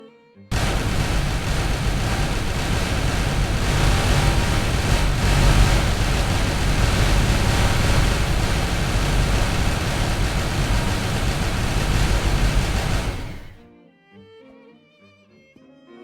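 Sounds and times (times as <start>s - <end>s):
deep explosion rumble with hiss: 0.5s - 13.6s.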